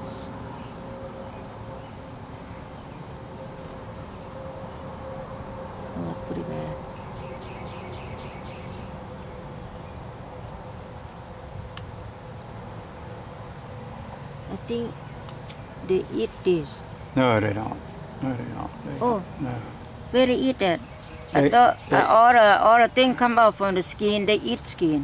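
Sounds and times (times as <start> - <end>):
insects buzzing and trilling: 0.0 - 25.0.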